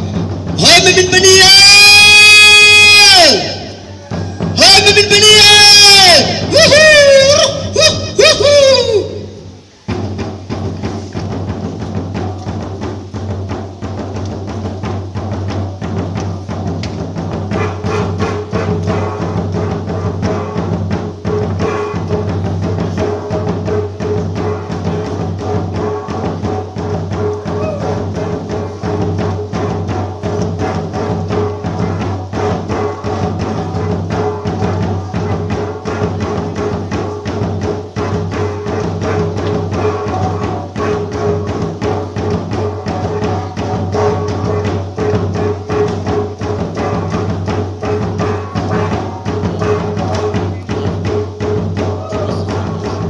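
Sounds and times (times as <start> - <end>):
rapid steady drumming: 0.0 - 53.0.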